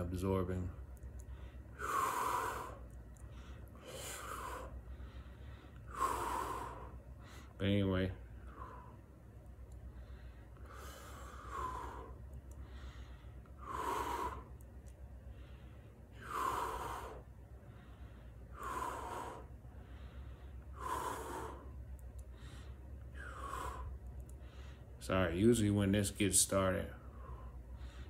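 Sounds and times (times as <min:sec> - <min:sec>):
man breathing heavily: 0:00.0 - 0:28.0.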